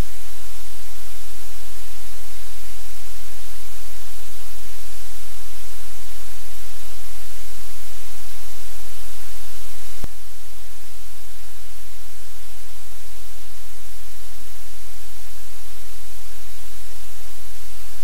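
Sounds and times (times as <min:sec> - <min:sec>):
static hiss: 0:00.0 - 0:18.0.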